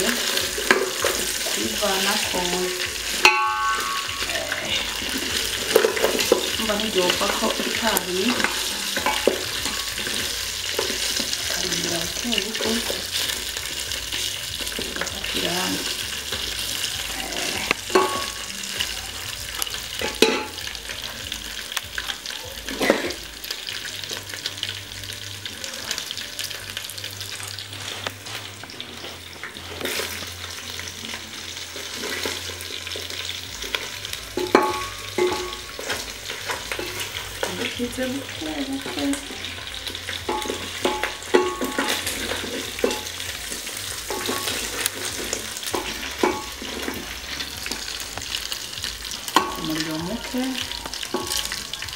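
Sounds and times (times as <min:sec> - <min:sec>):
meat sizzling in a pot: 0:00.0 - 0:51.9.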